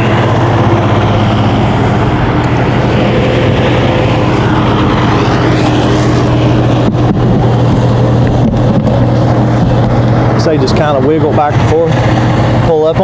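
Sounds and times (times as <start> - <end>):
loud motor hum: 0.0 - 13.0.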